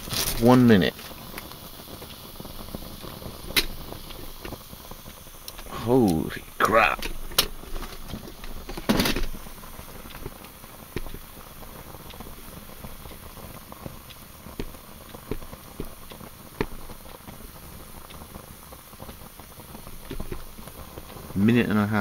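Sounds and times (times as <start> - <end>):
flame hissing: 0.0 - 22.0
fuel crackling and popping: 0.0 - 22.0.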